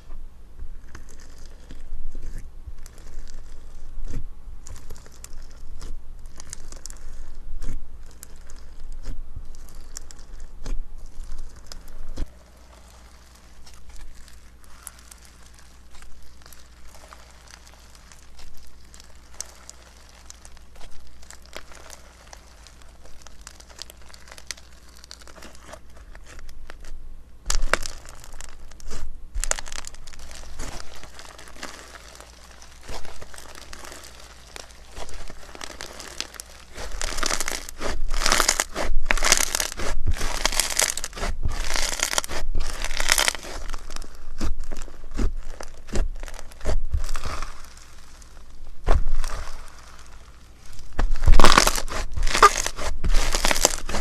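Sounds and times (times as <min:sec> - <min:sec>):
slime squeezed by hand crackling: 0:00.8 - 0:54.0.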